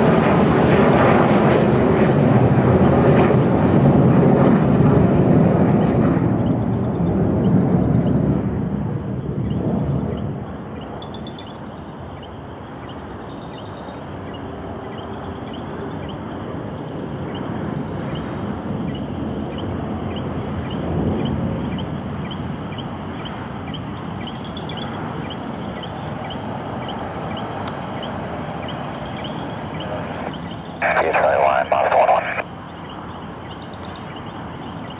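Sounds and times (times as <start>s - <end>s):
distant jet aircraft roar: 0.0s - 34.9s.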